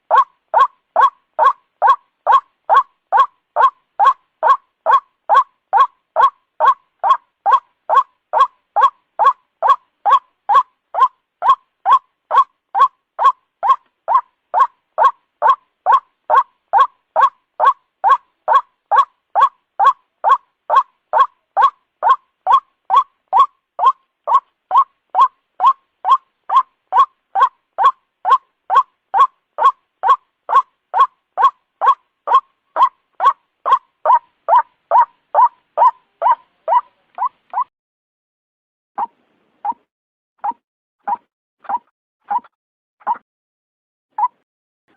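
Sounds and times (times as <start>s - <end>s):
waterhen calling: 0.1s - 37.7s.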